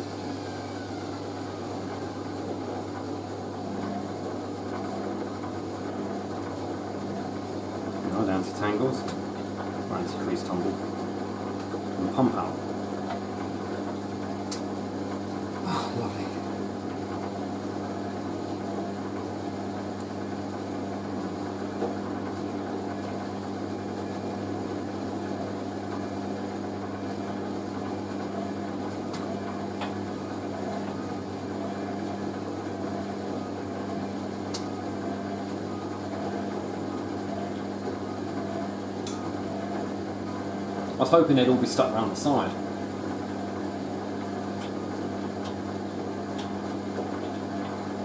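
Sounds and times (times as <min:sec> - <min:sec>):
washing machine drain pump humming: 0:00.0 - 0:48.0.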